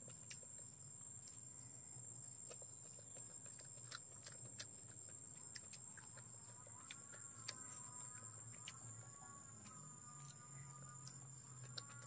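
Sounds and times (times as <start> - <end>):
chewing and eating clicks: 0.0 - 1.5, 2.2 - 12.0
faint high-pitched whine: 0.0 - 12.0.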